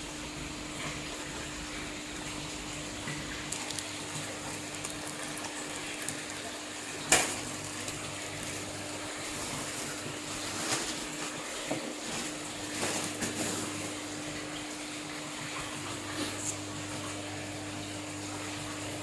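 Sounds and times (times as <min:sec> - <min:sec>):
aquarium water running: 0:00.0 - 0:19.0.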